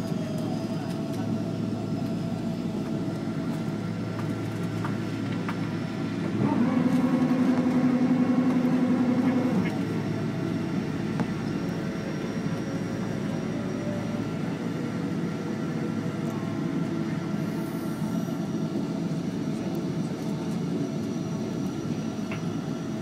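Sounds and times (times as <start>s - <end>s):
airliner engines rumbling: 0.0s - 23.0s.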